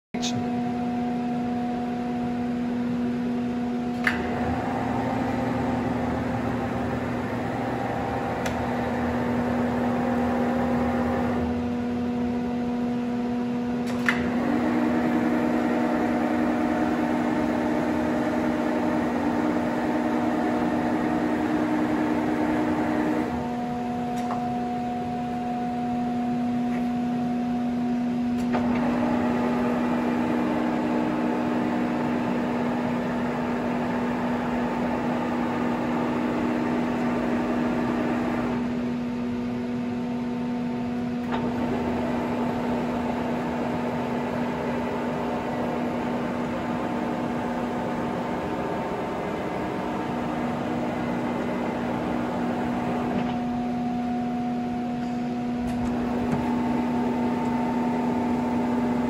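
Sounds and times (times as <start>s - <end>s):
feed drive whining: 0.2s - 39.8s, 40.9s - 59.0s
milling machine humming: 0.2s - 59.0s.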